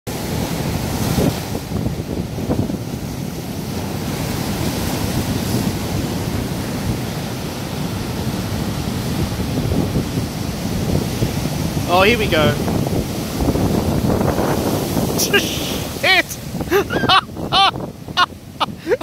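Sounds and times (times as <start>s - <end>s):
surf breaking over rocks: 0.1s - 19.0s
water splashes: 0.1s - 19.0s.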